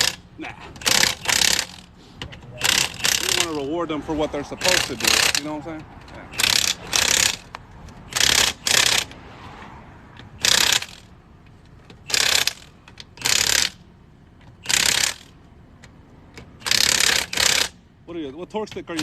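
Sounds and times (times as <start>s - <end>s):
impact wrench bursts: 0.0s - 9.2s, 10.2s - 11.2s, 11.8s - 19.0s.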